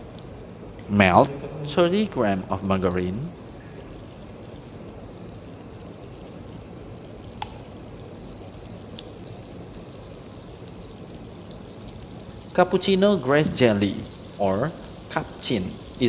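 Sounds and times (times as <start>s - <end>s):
margarine sizzling in a pan: 0.0s - 16.0s.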